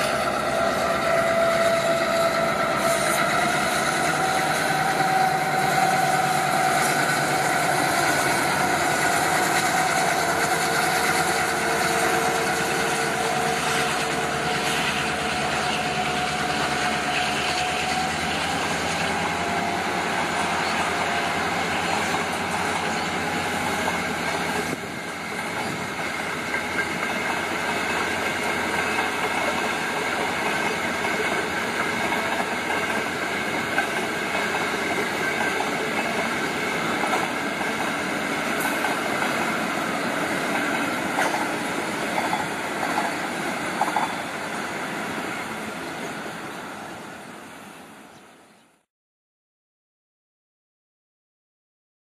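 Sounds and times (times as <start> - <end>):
train wheels rumbling on rail: 0.0 - 48.1.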